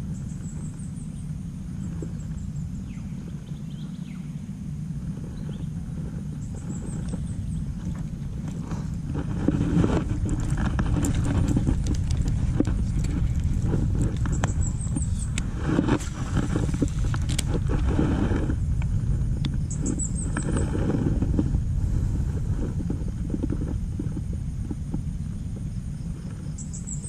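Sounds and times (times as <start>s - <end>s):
low rumble: 0.0s - 27.0s
rustling through long grass: 0.0s - 27.0s.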